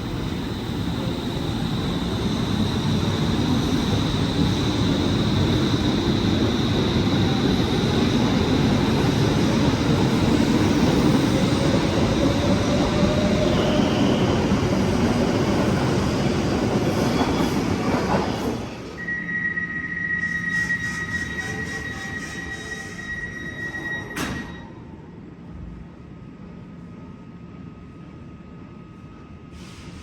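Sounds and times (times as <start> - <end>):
tram rail running noise: 0.0 - 30.0.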